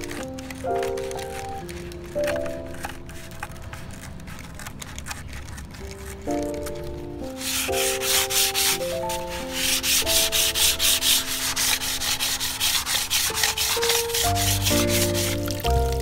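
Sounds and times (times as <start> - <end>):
sandpaper rubbing on cement: 0.0 - 6.2, 7.2 - 16.0.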